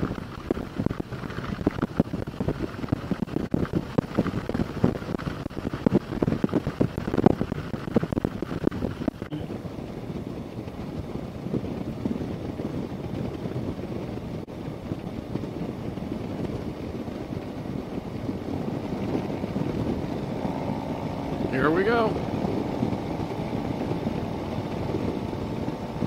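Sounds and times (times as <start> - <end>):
motorcycle engine cruising: 0.0 - 26.0
wind buffeting microphone: 0.0 - 26.0.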